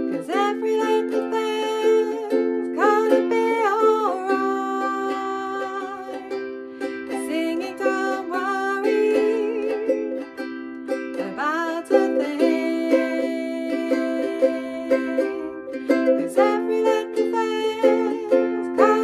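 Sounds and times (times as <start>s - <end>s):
person singing: 0.0s - 19.0s
strummed acoustic string instrument: 0.0s - 19.0s.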